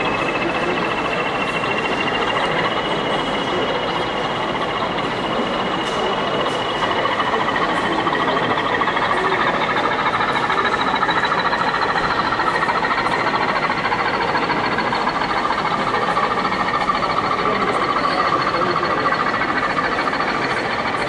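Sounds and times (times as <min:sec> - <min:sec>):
model train running with high whine: 0:00.0 - 0:21.0.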